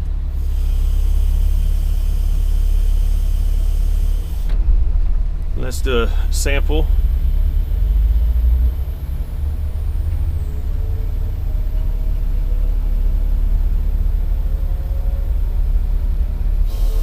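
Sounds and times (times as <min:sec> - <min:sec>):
excavator diesel engine rumble: 0:00.0 - 0:17.0.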